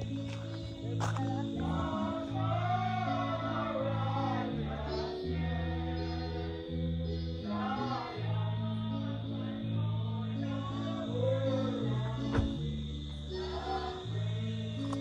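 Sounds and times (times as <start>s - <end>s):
person singing over bass line: 0.0s - 15.0s.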